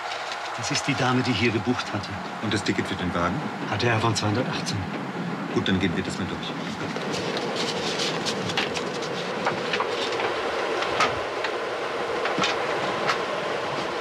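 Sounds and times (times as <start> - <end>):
train rumbling: 0.0 - 14.0
wheels clicking and rattling: 0.0 - 14.0.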